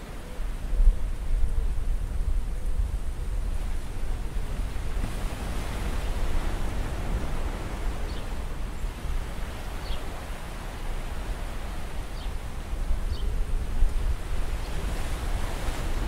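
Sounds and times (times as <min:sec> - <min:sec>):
wind and sea noise: 0:00.0 - 0:16.0
wind buffeting microphone: 0:00.0 - 0:16.0.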